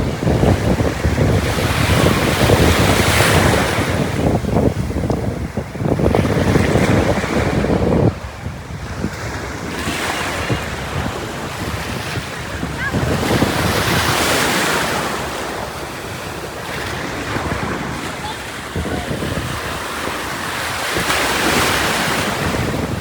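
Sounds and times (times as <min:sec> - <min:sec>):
ocean surf: 0:00.0 - 0:23.0
wind buffeting the microphone: 0:00.0 - 0:23.0.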